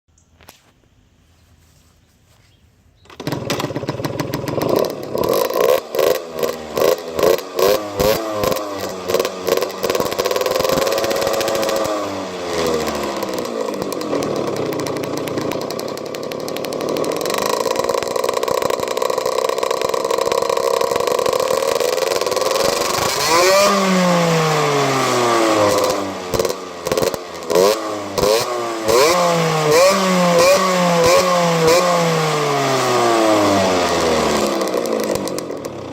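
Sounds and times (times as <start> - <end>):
motorcycle engine revving: 3.0 - 35.9.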